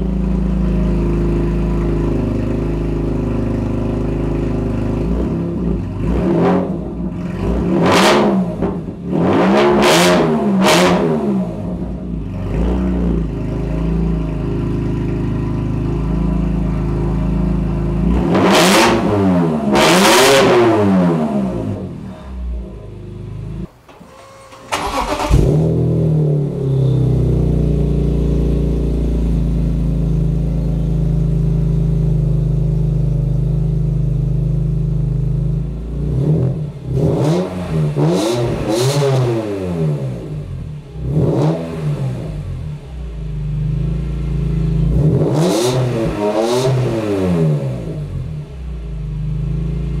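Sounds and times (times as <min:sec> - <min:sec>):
car engine revving: 0:00.0 - 0:23.8, 0:24.7 - 0:50.0
car engine starting and idling: 0:00.0 - 0:50.0.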